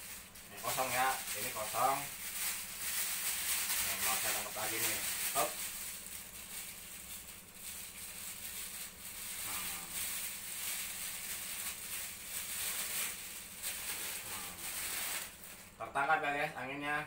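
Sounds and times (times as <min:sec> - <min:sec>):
plastic bag rustling: 0:00.0 - 0:16.0
electric fan humming: 0:00.0 - 0:17.0.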